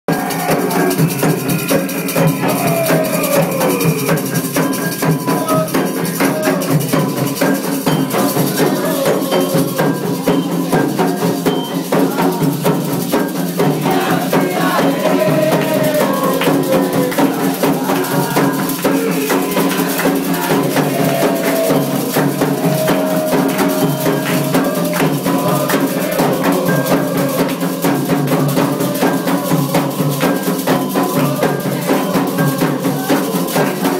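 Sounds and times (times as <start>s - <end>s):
hand drums: 0.1s - 33.9s
rattling shakers: 0.1s - 33.9s
voices singing: 0.1s - 33.9s.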